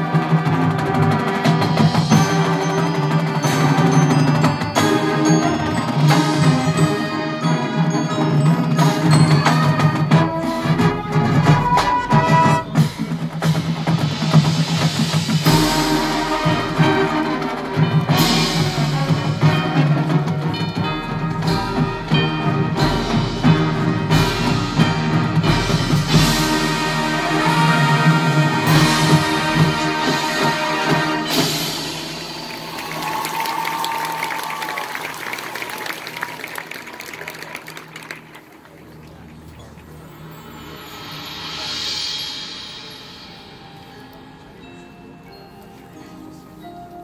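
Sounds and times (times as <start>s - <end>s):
drums and timpani: 0.0s - 35.0s, 40.0s - 44.8s
mallet percussion notes: 0.0s - 35.0s, 39.1s - 47.0s
percussion hits: 0.0s - 35.9s, 40.0s - 44.6s
marching band chords: 0.0s - 38.6s, 40.0s - 44.8s.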